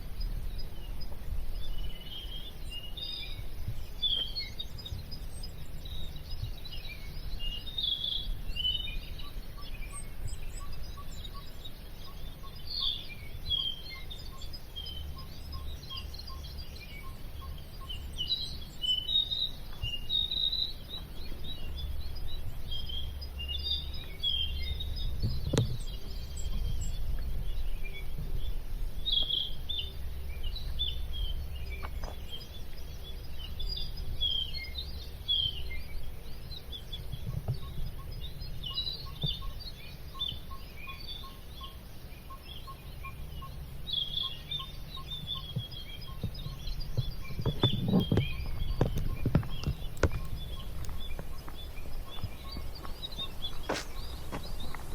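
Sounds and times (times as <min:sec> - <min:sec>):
forest birds chirping: 0:00.0 - 0:54.9
steady low rumble: 0:00.0 - 0:54.9.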